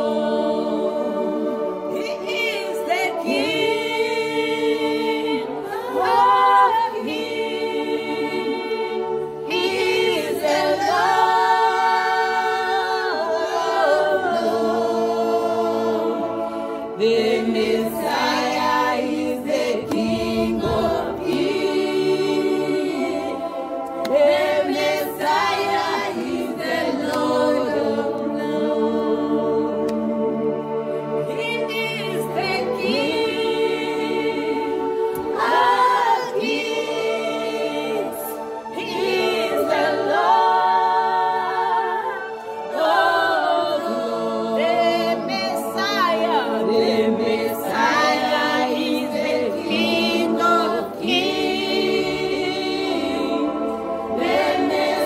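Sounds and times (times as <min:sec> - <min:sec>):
choir singing sustained chords: 0:00.0 - 0:55.0.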